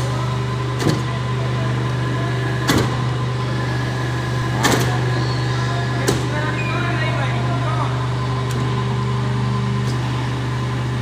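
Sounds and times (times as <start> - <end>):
hydraulic press humming: 0.0 - 11.0.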